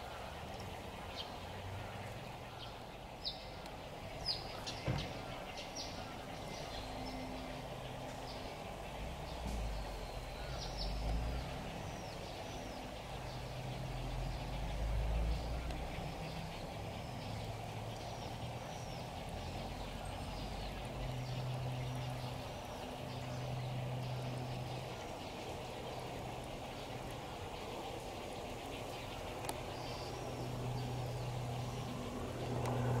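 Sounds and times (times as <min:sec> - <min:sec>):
small birds chirping: 0:00.0 - 0:33.0
low hum: 0:03.4 - 0:33.0.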